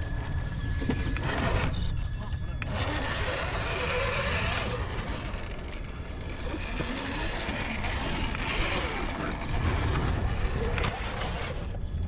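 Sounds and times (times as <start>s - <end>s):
electric motor and gears whirring: 0.0s - 12.0s
low rumble: 0.0s - 12.0s.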